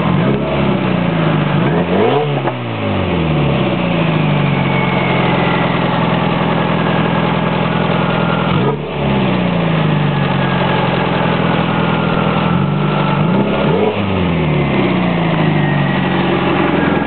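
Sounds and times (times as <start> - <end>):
engine revving: 0.0 - 17.0
faint high turbo whine: 0.0 - 17.0.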